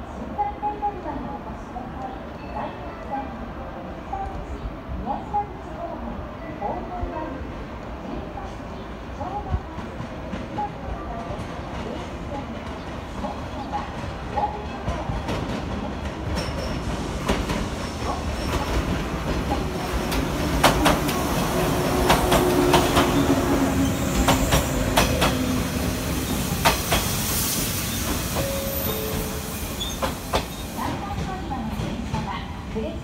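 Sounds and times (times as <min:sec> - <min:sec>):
electric train rumbling: 0:06.2 - 0:33.0.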